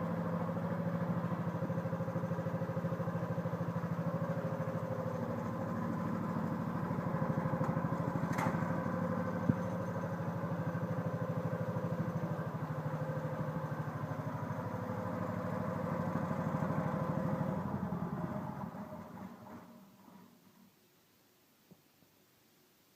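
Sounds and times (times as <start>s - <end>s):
sawmill engine running: 0.0s - 20.3s.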